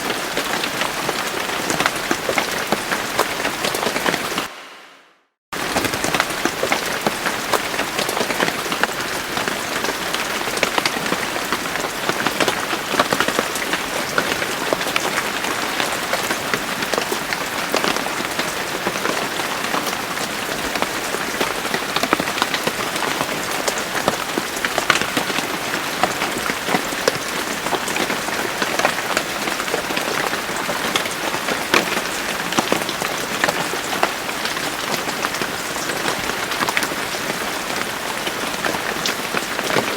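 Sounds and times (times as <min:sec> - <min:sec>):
raindrops ticking on a surface: 0:05.6 - 0:39.9.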